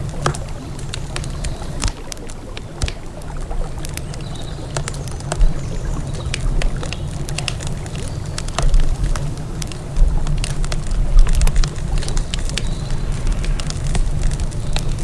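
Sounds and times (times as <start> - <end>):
steady low rumble: 0.0 - 15.0
wood campfire crackling: 0.0 - 15.0.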